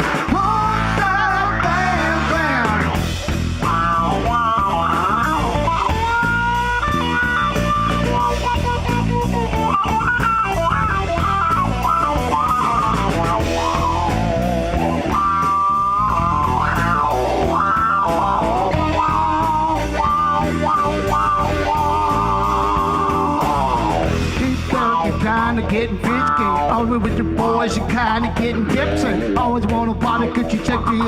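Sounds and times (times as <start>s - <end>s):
bass guitar: 0.0s - 31.0s
lead guitar melody: 0.0s - 31.0s
steady drum beat: 0.0s - 31.0s.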